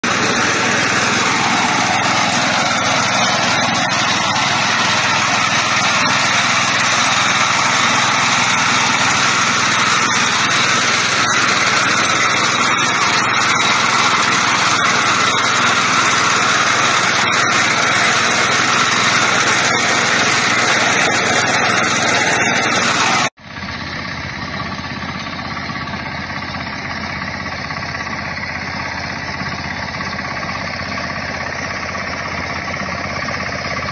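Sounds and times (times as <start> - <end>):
reaper engine running: 0.0 - 33.9.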